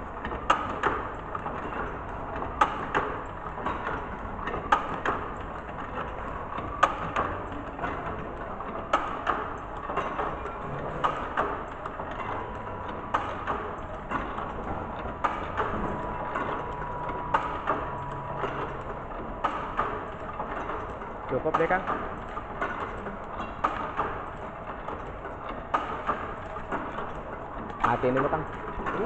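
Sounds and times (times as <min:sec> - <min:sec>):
curtain machine clacking and knocking: 0:00.0 - 0:29.0
machine hum: 0:00.0 - 0:29.0.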